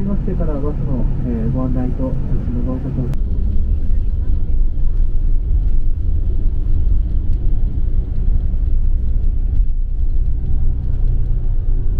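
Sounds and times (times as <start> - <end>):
low-pitched rumble: 0.0 - 11.9.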